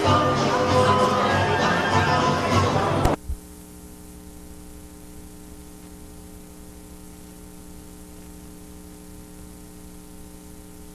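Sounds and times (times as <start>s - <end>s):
electrical mains hum: 0.0s - 10.9s
tape hiss: 0.0s - 10.9s.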